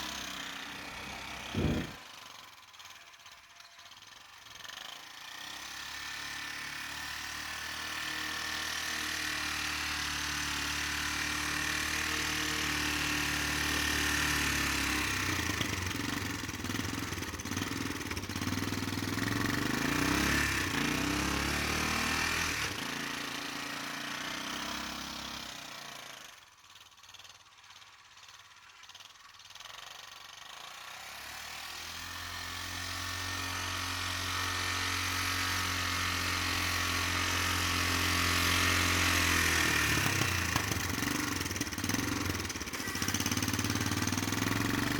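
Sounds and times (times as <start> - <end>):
atv engine running: 0.0 - 25.5, 26.8 - 44.9.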